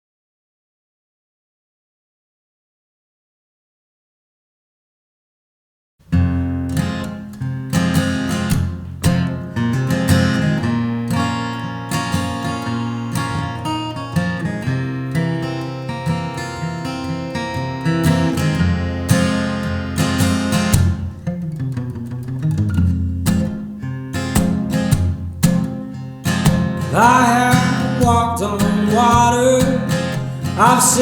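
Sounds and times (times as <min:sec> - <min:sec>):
acoustic guitar strumming chords: 0:06.1 - 0:31.0.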